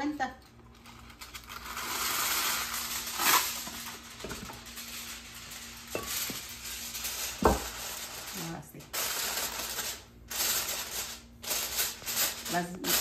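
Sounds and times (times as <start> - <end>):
aluminium foil rustling: 0.4 - 13.0
foil crinkling: 0.6 - 13.0.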